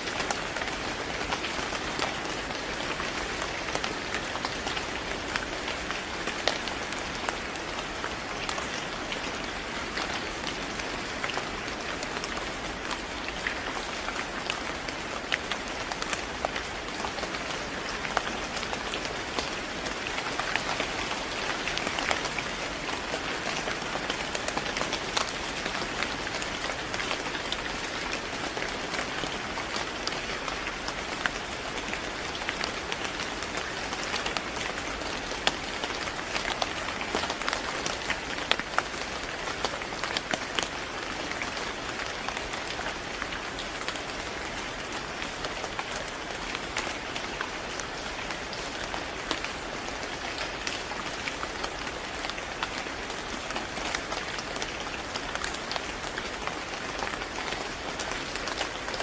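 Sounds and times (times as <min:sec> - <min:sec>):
rain hissing on a surface: 0:00.0 - 0:59.0.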